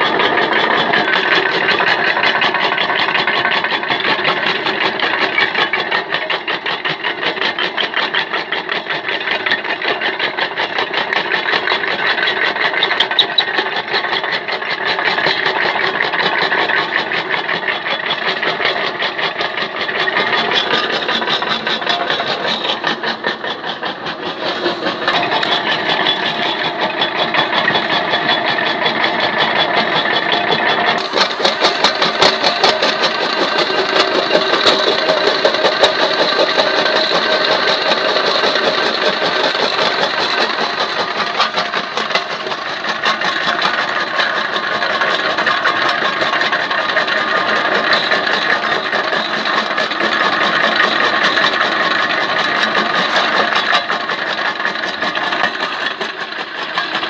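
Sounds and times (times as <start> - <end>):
jaw crusher crushing brick: 0.0 - 57.0.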